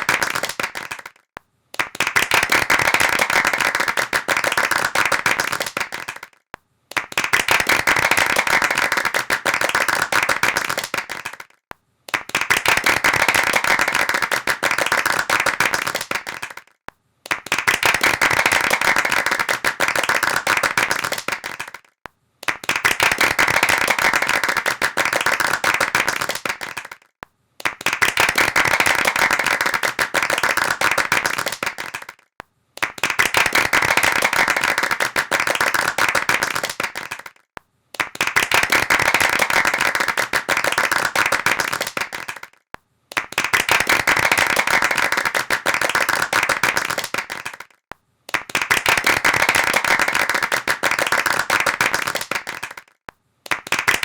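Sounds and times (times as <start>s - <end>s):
rapid hand clapping: 0.0s - 54.0s.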